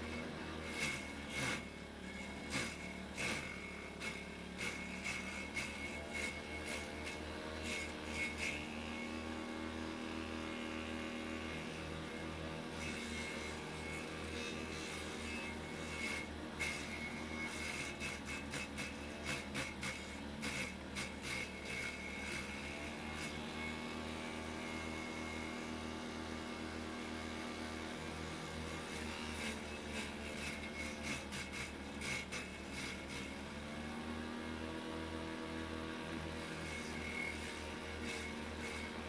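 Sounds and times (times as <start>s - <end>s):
electric motor humming: 0.0s - 39.0s.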